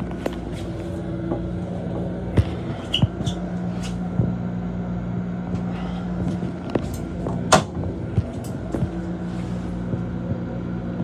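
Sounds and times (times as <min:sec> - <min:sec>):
electric railcar low hum: 0:00.0 - 0:11.0.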